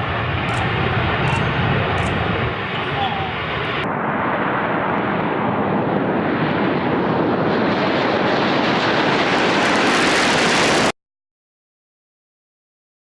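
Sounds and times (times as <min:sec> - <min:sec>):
jet engines roaring past: 0:00.0 - 0:10.9.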